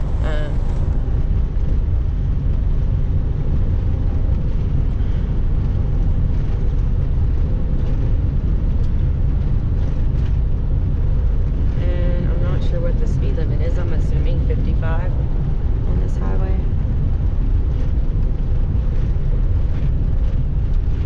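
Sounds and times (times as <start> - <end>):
road noise: 0.0 - 21.0
truck diesel engine rumble: 0.0 - 21.0.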